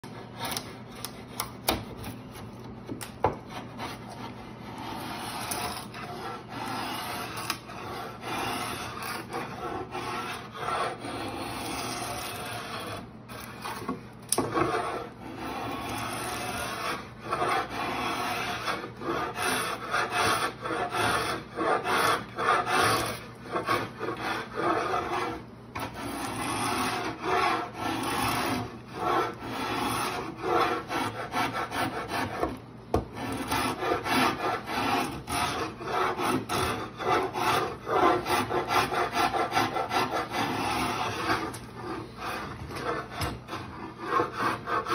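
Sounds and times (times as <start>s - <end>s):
drawknife scraping wood: 0.0s - 44.9s.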